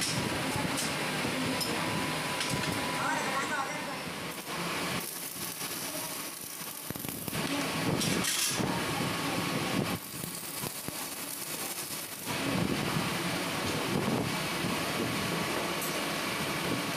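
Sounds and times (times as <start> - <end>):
electric arc welding crackling: 0.0 - 15.4.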